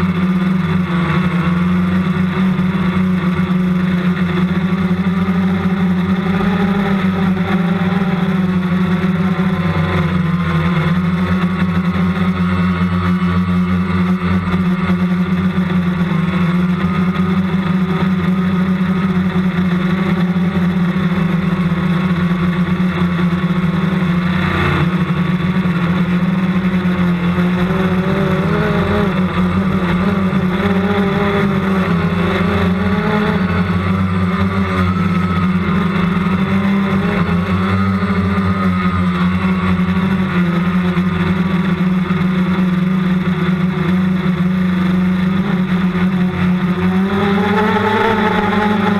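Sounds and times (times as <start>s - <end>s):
drone motors and propellers droning: 0.0s - 48.9s
wavering whining tones: 0.0s - 48.9s.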